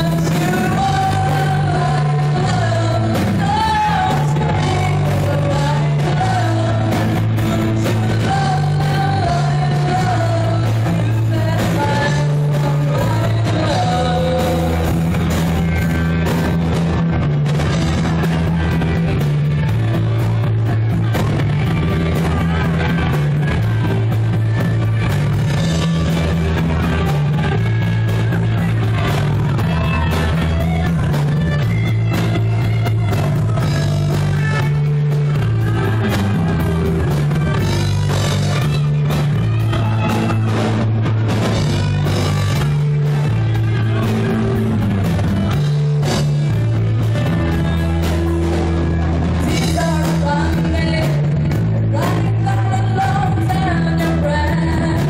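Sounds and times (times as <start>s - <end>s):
bass line: 0.0s - 55.0s
drum kit: 0.0s - 55.0s
electric guitar: 0.0s - 55.0s.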